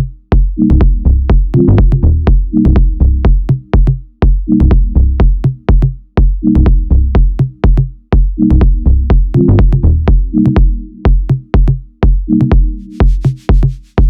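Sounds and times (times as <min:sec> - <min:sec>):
electronic music: 0:00.0 - 0:14.0.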